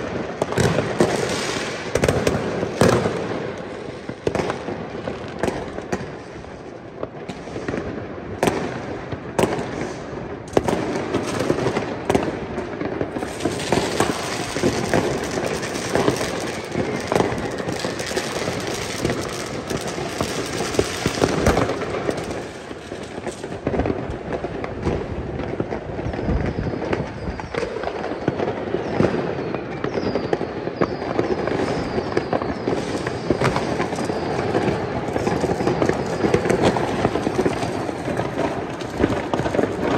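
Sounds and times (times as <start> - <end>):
falling firework whistles: 0.0 - 6.4, 12.8 - 39.9
fireworks bangs and crackling: 0.0 - 39.9.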